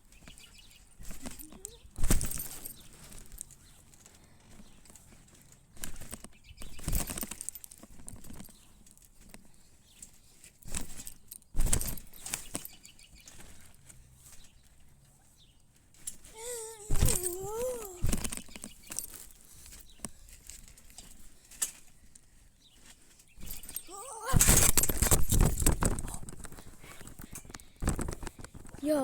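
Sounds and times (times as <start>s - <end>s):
rustling and thumping: 0.0s - 29.0s.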